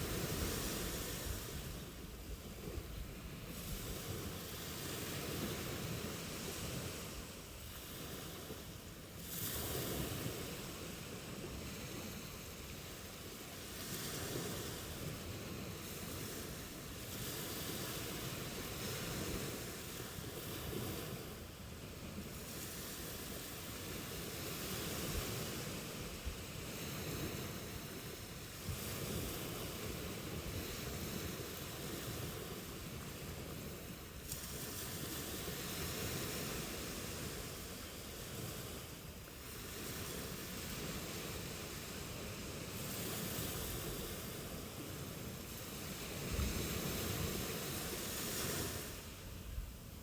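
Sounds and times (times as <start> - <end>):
ocean waves breaking on shore: 0.0 - 50.0.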